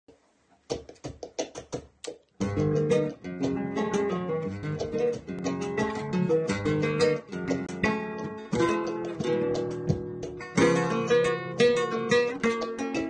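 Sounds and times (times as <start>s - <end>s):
flamenco guitar playing: 2.4s - 13.0s.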